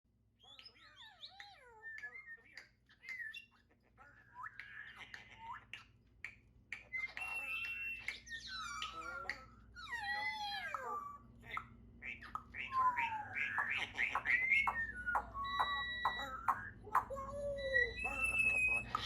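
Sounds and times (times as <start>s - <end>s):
parrot squawking and whistling: 0.4s - 19.0s.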